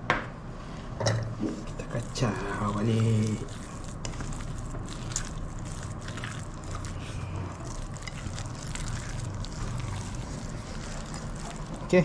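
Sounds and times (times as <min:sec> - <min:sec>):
spoon scraping dough in glass bowl: 0:01.6 - 0:12.0.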